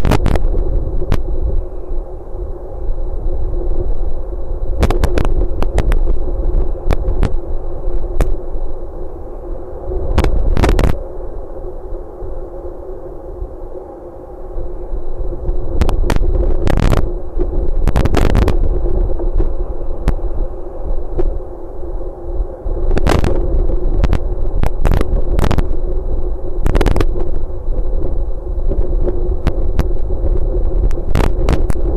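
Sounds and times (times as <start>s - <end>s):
steady low hum: 0.0s - 31.9s
wind buffeting microphone: 0.0s - 31.9s.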